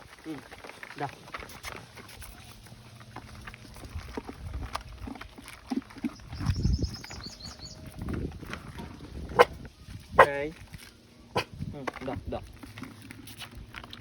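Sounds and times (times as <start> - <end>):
dogs eating and jostling: 0.0 - 14.0.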